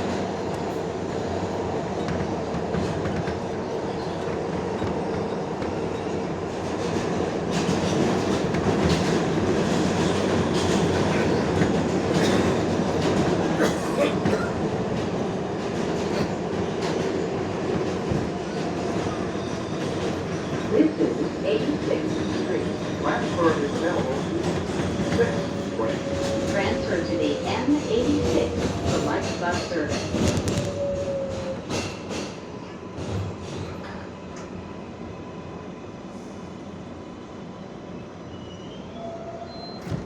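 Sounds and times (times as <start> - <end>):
subway car rumble: 0.0 - 40.0.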